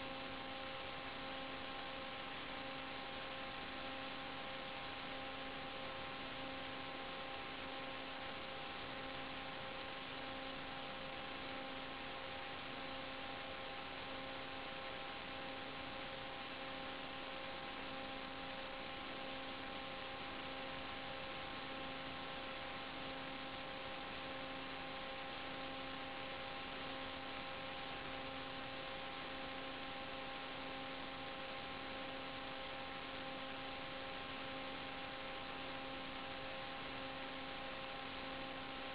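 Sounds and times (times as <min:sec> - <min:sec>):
constant multi-tone hum: 0:00.0 - 0:38.9.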